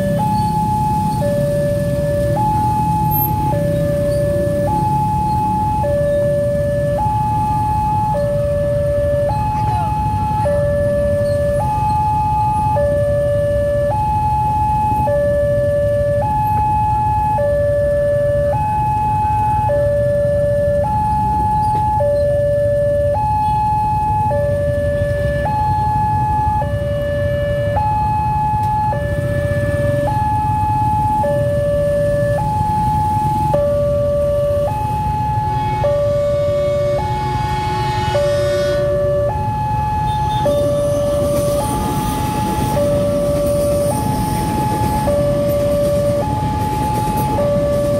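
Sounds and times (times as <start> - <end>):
road traffic rumble: 0.0 - 47.9
two-tone crossing alarm: 0.0 - 47.9.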